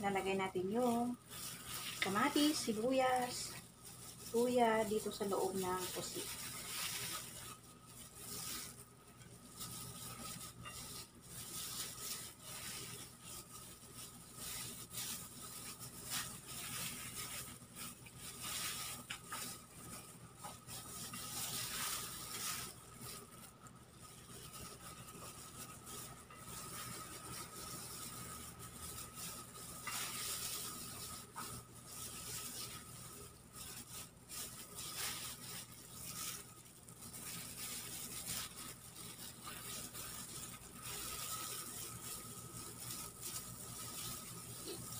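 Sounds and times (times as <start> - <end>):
wet filling rustling and scraping: 0.0 - 44.9.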